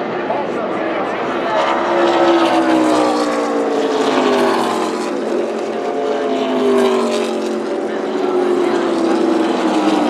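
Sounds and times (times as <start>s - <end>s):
race car engines passing by: 0.0s - 10.0s.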